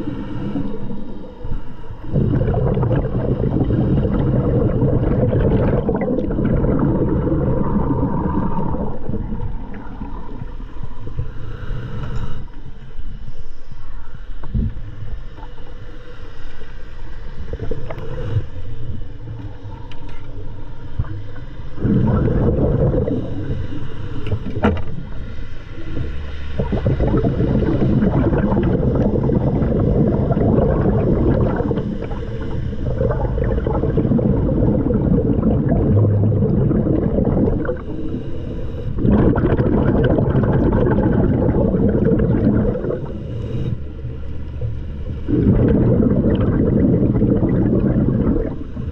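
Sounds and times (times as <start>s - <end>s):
gurgling exhaust bubbles underwater: 0.0s - 48.9s.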